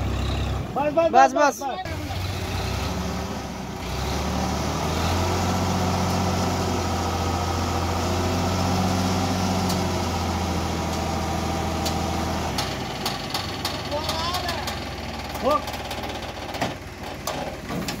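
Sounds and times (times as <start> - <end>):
diesel tractor engine: 0.0 - 18.0.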